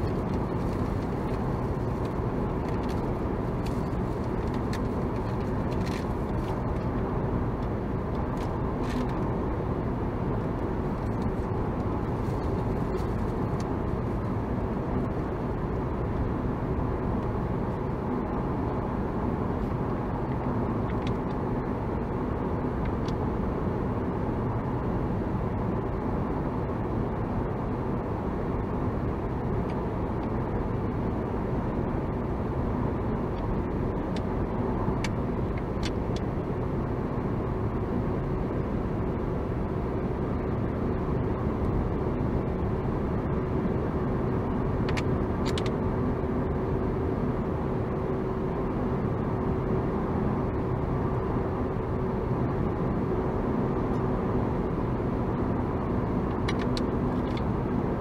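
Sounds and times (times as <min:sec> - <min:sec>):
car road noise in cabin: 0:00.0 - 0:58.0.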